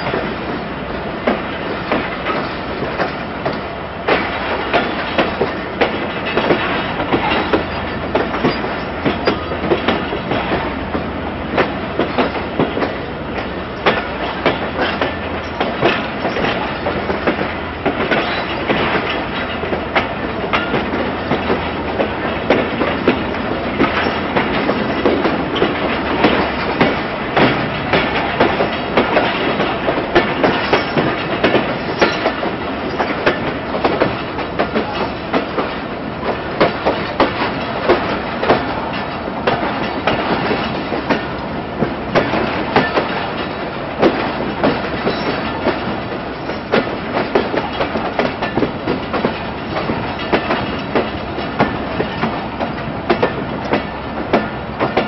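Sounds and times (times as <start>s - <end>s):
train wheels rolling rumble: 0.0s - 55.0s
wheels clacking over rail joints: 0.0s - 55.0s.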